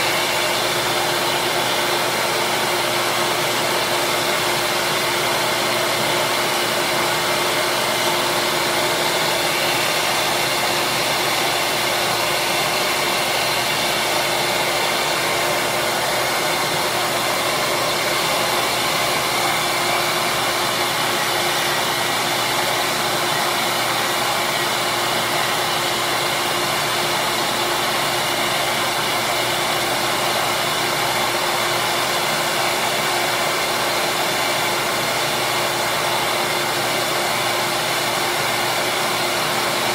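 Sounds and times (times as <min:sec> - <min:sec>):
benchtop sander whirring: 0:00.0 - 0:39.9.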